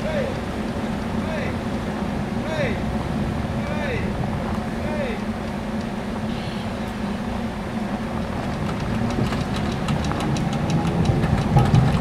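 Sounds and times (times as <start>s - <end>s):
streetcar brooms humming: 0.0s - 12.0s.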